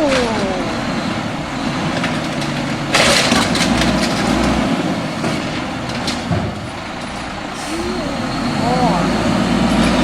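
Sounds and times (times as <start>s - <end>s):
garbage truck engine idling: 0.0s - 10.0s.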